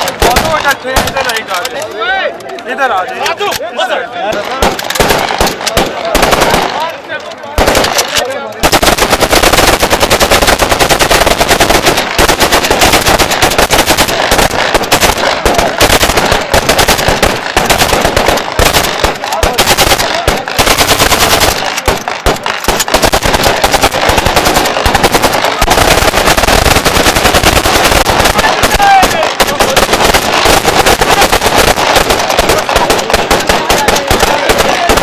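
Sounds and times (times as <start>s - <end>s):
rapid automatic gunfire: 0.0s - 1.6s, 4.5s - 35.0s.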